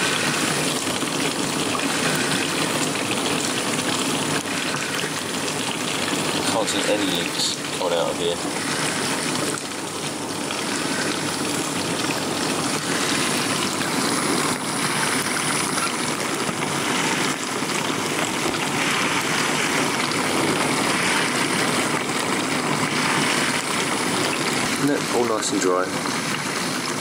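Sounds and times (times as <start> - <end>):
dishwasher pump running: 0.0 - 27.0
water spraying inside dishwasher: 0.0 - 27.0.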